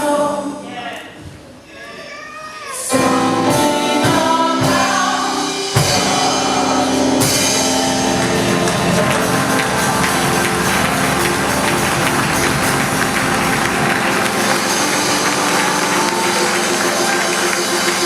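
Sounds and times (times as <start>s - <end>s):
gospel choir singing: 0.0s - 0.6s, 2.9s - 18.0s
band playing: 2.9s - 18.0s
drums: 2.9s - 18.0s.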